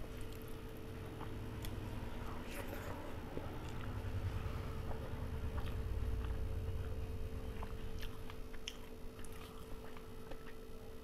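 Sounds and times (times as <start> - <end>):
chewing: 0.0 - 11.0
low hum: 0.0 - 11.0.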